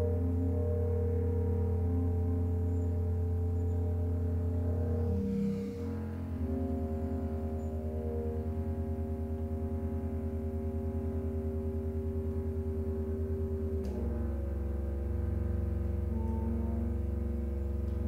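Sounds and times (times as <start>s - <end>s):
bass clarinet: 0.0s - 18.0s
chamber ensemble low drones: 0.0s - 18.0s.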